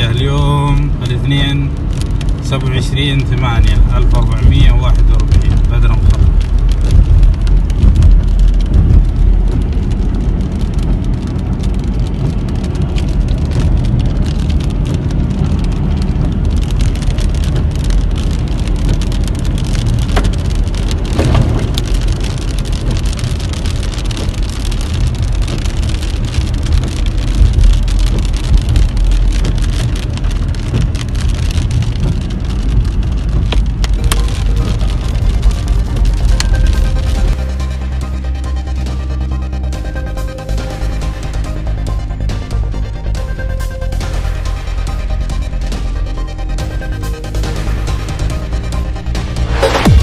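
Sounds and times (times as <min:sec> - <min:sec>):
car rumbling on road: 0:00.0 - 0:50.0
hail drumming on car: 0:00.0 - 0:50.0.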